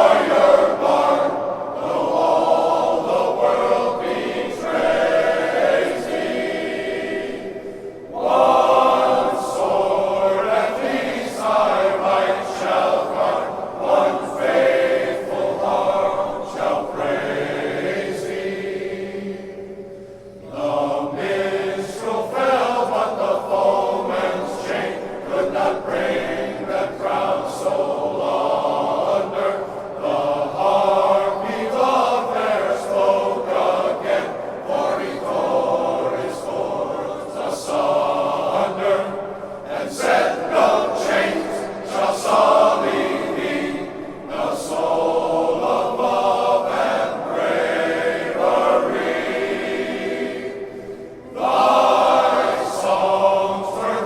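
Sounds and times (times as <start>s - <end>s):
men's choir singing in harmony: 0.0s - 54.0s.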